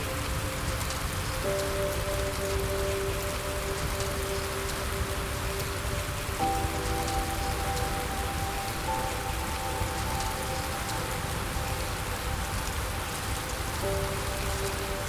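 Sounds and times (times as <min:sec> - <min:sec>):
calm background music: 0:00.0 - 0:15.0
steady rain falling: 0:00.0 - 0:15.0.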